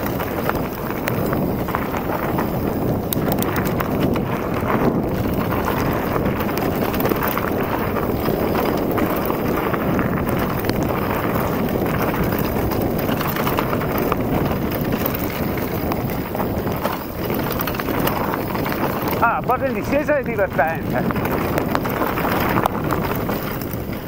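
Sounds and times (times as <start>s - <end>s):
bike rattling: 0.0s - 24.0s
tyres rolling over dirt: 0.0s - 24.0s
wind buffeting microphone: 0.0s - 24.0s.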